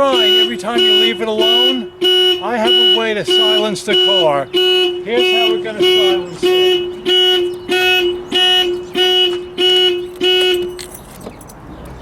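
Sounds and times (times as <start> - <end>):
car alarm honking: 0.0 - 11.2.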